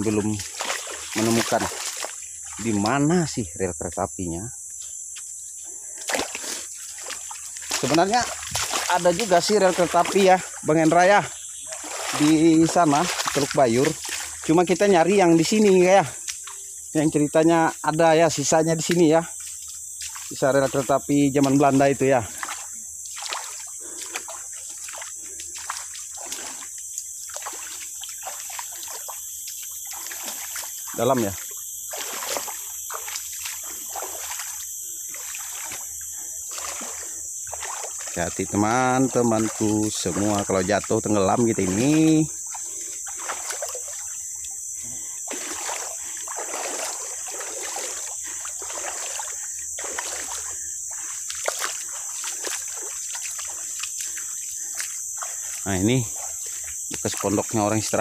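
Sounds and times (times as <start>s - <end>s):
feet wading through water: 0.0s - 3.5s, 5.2s - 58.0s.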